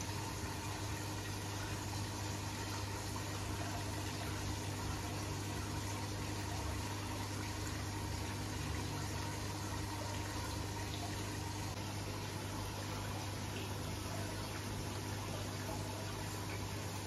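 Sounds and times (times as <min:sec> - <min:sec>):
aquarium water bubbling: 0:00.0 - 0:17.0
constant low hum: 0:00.0 - 0:17.0.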